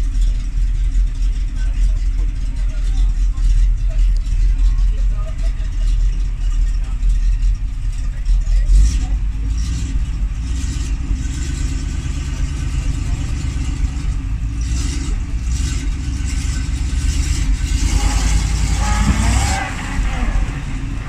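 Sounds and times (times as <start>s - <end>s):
truck engine under load: 0.0s - 21.0s.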